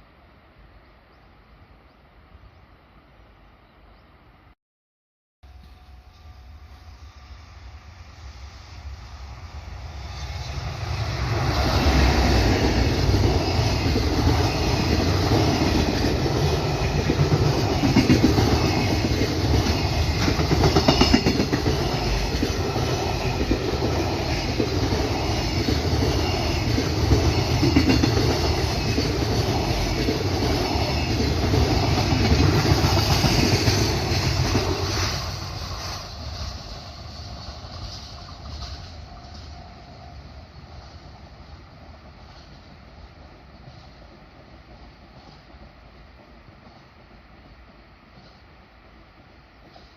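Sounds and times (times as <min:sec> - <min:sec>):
freight train rumbling over rails: 0:05.8 - 0:49.9.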